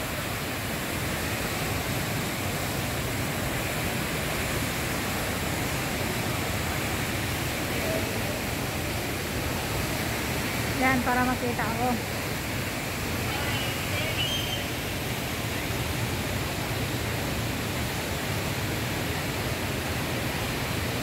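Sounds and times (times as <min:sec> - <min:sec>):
indoor waterfall rushing: 0:00.0 - 0:21.0.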